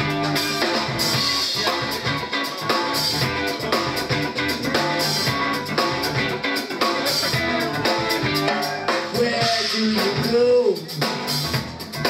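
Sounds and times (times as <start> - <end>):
bass guitar: 0.0 - 12.0
drum kit beat: 0.0 - 12.0
electric guitar: 0.0 - 12.0
person singing: 1.4 - 11.3.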